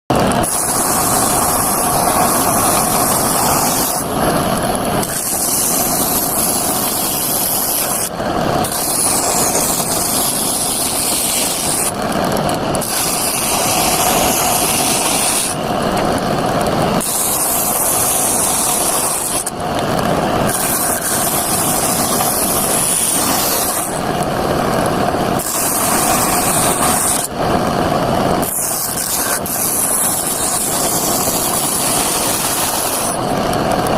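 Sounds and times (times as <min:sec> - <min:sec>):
mini saw cutting wood: 0:00.1 - 0:33.9.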